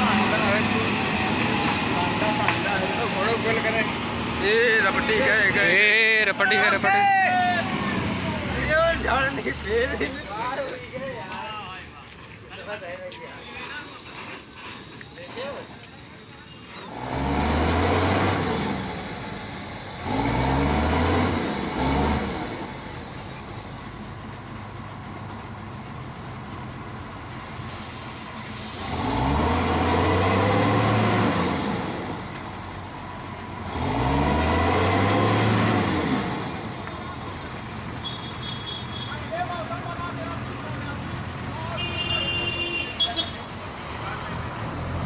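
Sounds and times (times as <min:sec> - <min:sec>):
diesel truck engine revving: 0:00.0 - 0:11.2, 0:16.9 - 0:45.0.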